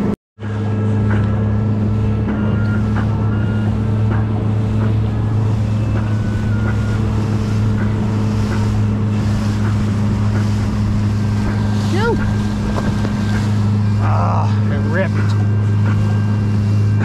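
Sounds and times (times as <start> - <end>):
motorboat engine humming: 0.0 - 17.0
water rushing along hull: 0.0 - 17.0
wind on microphone: 0.0 - 17.0.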